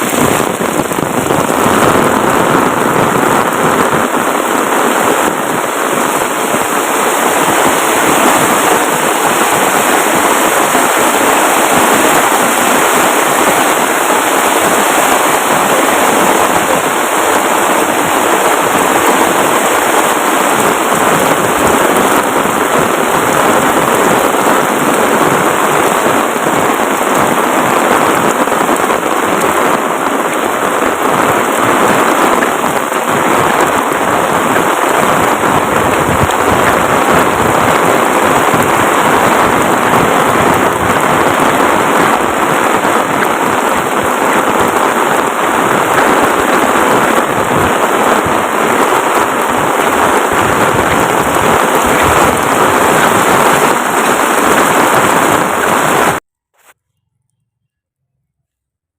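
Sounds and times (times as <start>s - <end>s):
heavy rain pouring: 0.0s - 56.2s.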